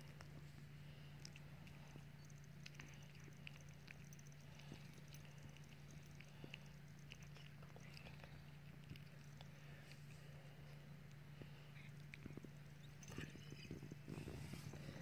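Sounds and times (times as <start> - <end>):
kitten chewing bread clicks: 0.0 - 15.0
steady low hum: 0.0 - 15.0.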